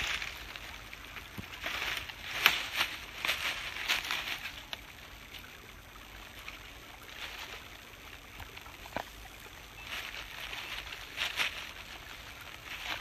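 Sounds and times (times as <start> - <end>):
brook trickling: 0.0 - 13.0
footsteps through brush and leaves: 0.0 - 13.0.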